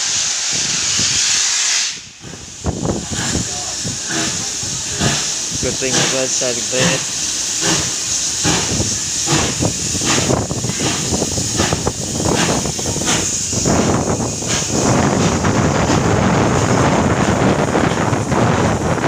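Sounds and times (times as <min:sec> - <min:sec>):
steam locomotive chuffing: 0:00.0 - 0:19.0
steam locomotive passing: 0:00.0 - 0:19.0.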